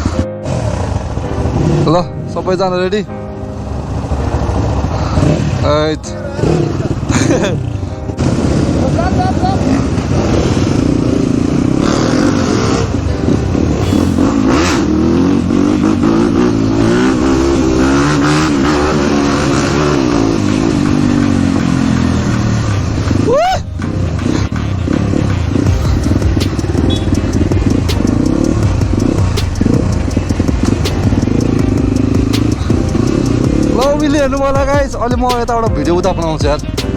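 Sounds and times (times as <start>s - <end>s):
dirt bike engines revving: 0.0s - 34.6s.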